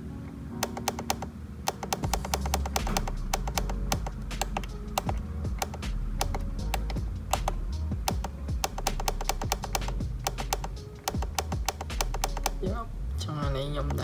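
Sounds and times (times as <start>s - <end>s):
sharp clicks: 0.6s - 12.6s
background music with bass line: 1.8s - 14.0s.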